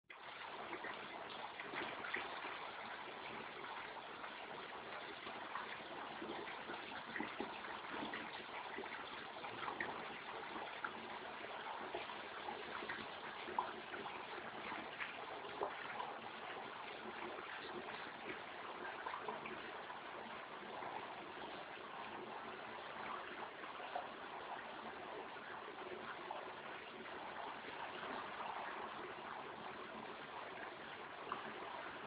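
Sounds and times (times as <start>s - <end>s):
water trickling and gurgling: 0.1s - 32.0s.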